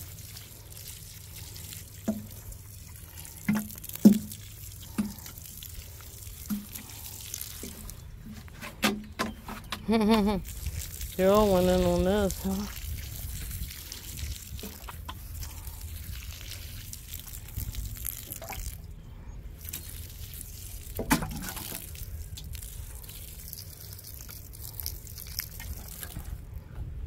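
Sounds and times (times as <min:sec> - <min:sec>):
water trickling onto soil: 0:00.0 - 0:08.6, 0:09.5 - 0:26.7.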